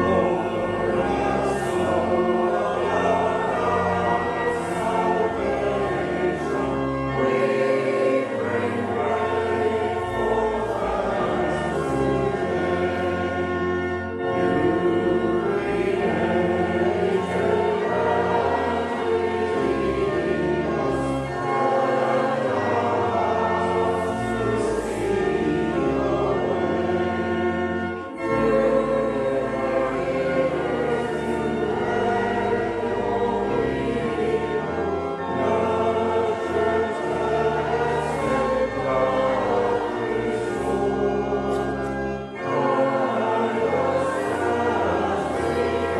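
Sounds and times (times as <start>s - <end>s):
congregation singing a hymn: 0.0s - 45.9s
instrumental accompaniment: 0.0s - 45.9s.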